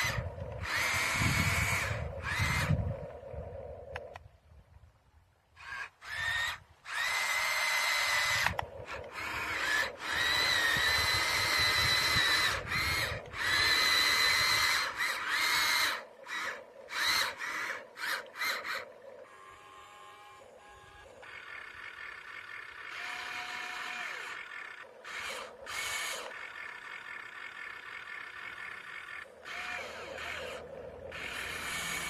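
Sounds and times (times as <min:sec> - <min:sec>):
toy electric motor whining: 0:00.0 - 0:04.2, 0:05.6 - 0:32.0.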